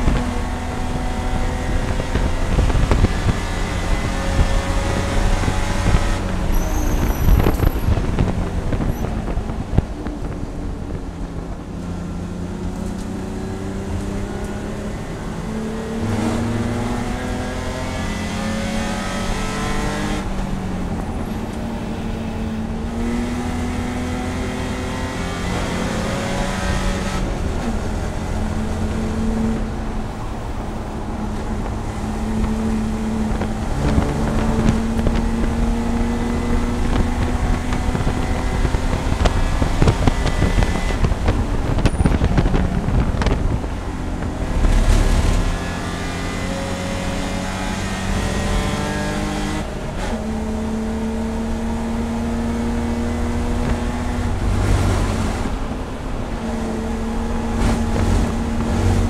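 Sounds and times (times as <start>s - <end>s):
race car engine accelerating: 0.0s - 59.0s
wind and road noise: 0.0s - 59.0s.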